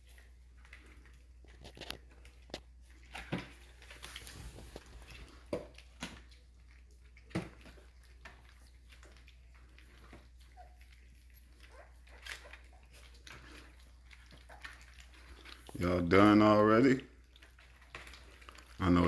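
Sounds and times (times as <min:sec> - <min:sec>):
puppies eating from a dish: 0:00.0 - 0:19.0.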